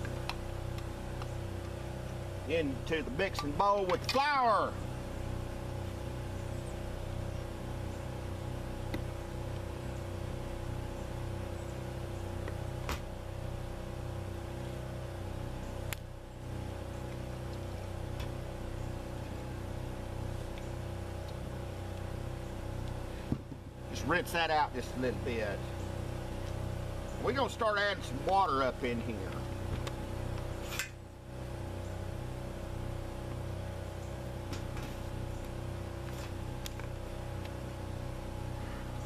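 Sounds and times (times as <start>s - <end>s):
engine humming steadily: 0.0s - 39.0s.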